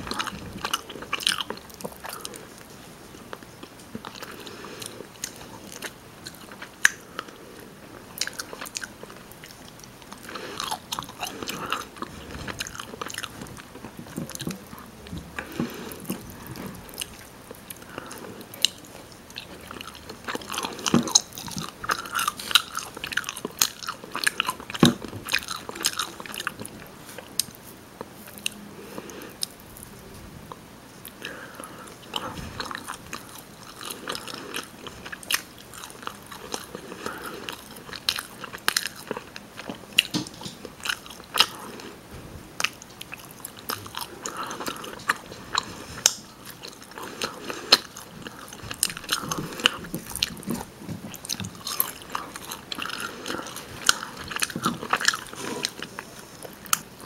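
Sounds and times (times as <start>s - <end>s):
person chewing and crunching: 0.0s - 30.0s, 31.0s - 42.0s, 42.6s - 57.0s.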